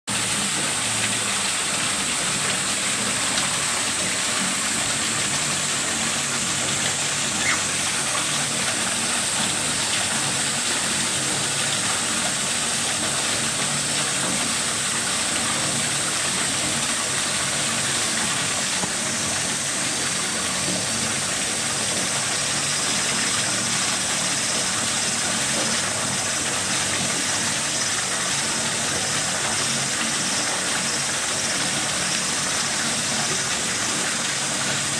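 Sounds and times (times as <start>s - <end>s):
running water rushing: 0.1s - 34.9s.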